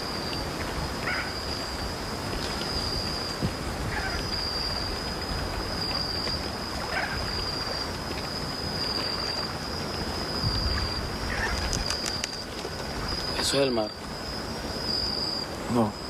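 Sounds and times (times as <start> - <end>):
high insect drone: 0.0 - 16.0
steady rushing hiss: 0.0 - 16.0.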